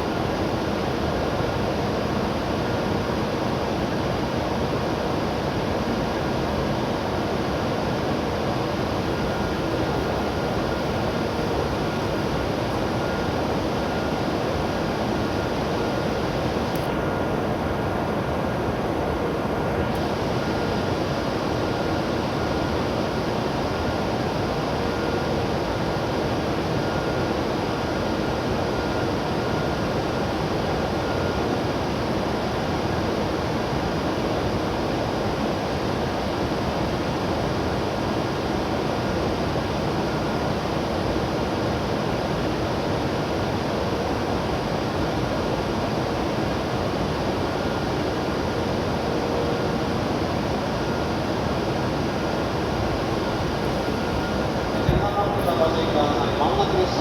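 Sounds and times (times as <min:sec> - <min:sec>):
train cooling fans humming: 0:00.0 - 0:57.0.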